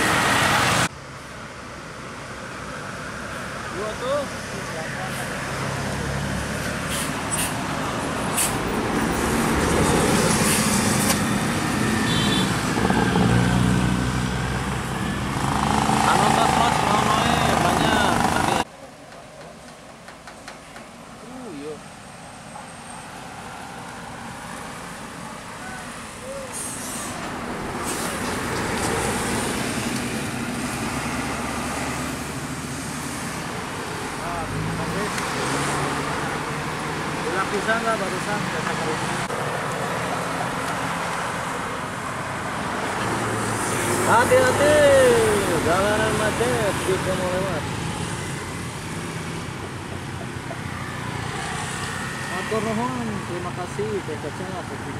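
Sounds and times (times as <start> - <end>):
bus diesel engine passing: 0.0 - 18.7, 21.2 - 54.9
cars passing: 0.0 - 54.9
motorcycles passing: 3.2 - 18.7, 22.7 - 54.9.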